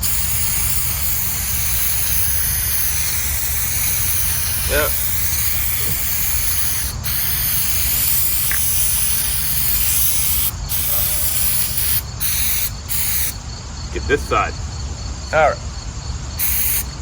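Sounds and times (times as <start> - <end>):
aerosol can spraying hiss: 0.0 - 13.4, 16.4 - 17.0.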